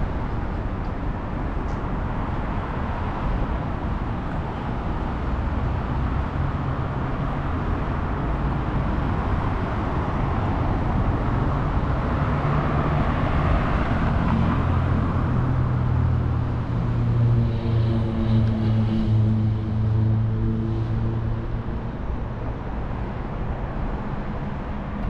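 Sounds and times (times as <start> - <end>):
passing cars: 0.0 - 25.0.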